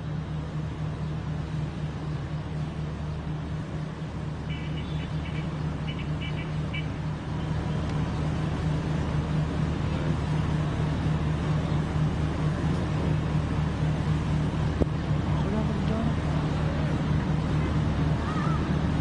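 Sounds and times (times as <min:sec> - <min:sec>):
outdoor low rumble: 0:00.0 - 0:19.0.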